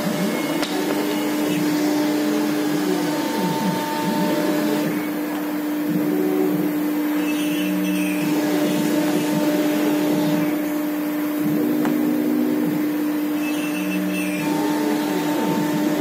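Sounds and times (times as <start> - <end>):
router spindle motor hum: 0.0 - 16.0.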